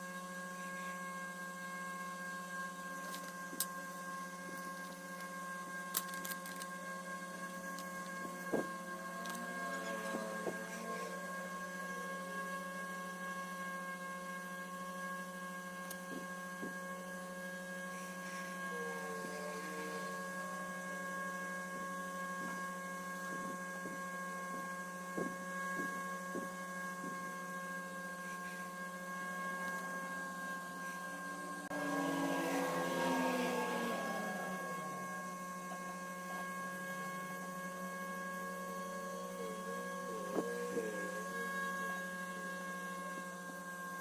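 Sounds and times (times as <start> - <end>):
electrical hum: 0.0 - 44.0.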